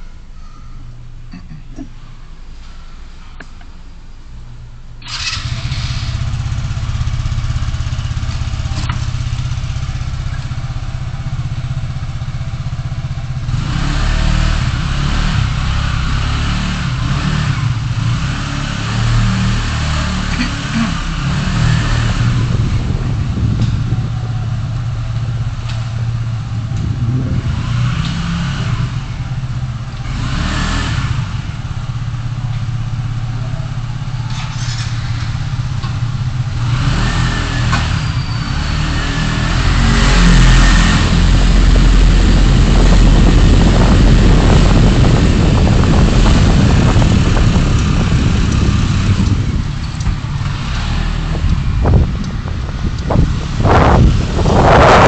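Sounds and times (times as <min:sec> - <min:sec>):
road noise: 0:00.0 - 0:55.0
car engine hum: 0:03.1 - 0:55.0.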